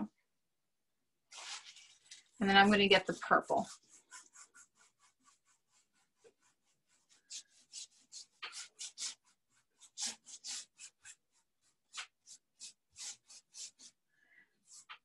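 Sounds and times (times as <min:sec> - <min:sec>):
paintbrush scrubbing on canvas: 0:01.3 - 0:15.0.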